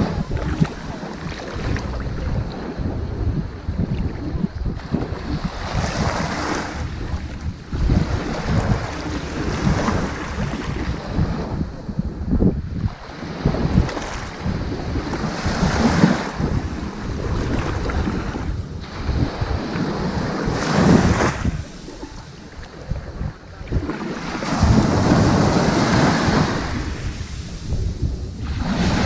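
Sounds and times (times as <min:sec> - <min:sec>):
ocean waves washing up beach: 0:00.0 - 0:29.0.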